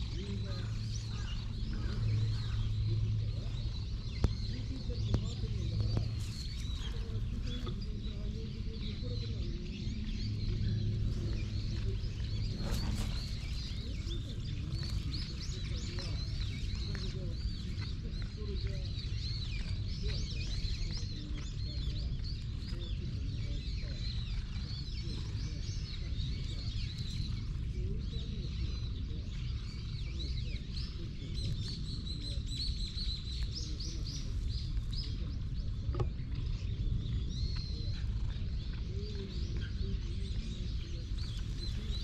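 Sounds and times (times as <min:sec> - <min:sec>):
low rumble: 0:00.0 - 0:42.0
small birds chirping: 0:00.0 - 0:42.0.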